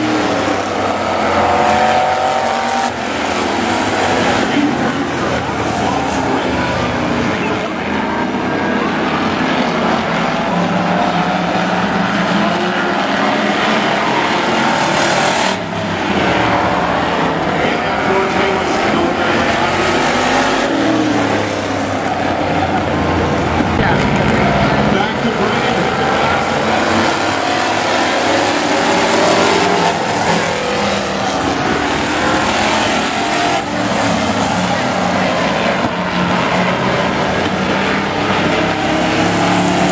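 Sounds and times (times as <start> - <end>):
truck engines racing: 0.0 - 39.9.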